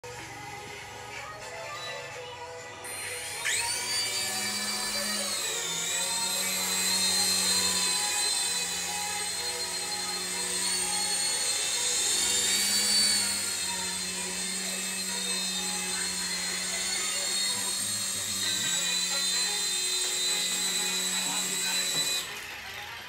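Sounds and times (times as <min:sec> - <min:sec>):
toy helicopter motors whining: 0:00.0 - 0:23.0.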